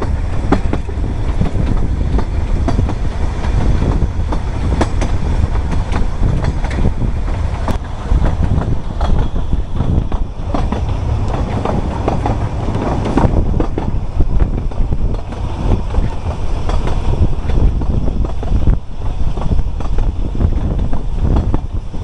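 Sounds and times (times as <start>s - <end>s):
train wheels clattering over track: 0.0s - 22.0s.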